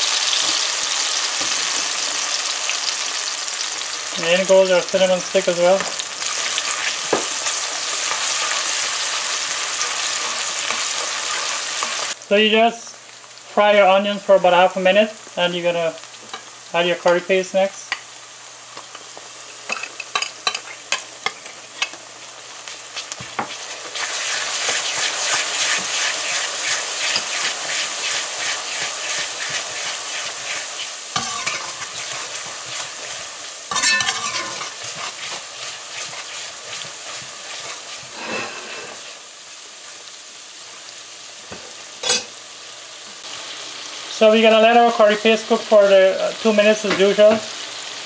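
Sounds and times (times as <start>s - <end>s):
loud sizzle: 0.0s - 48.0s
onions frying in oil: 0.0s - 48.0s.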